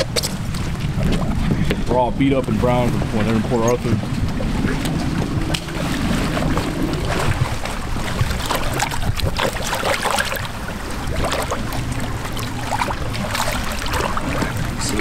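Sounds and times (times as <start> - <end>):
low wind rumble: 0.0 - 15.0
water splashing and sloshing: 0.0 - 15.0.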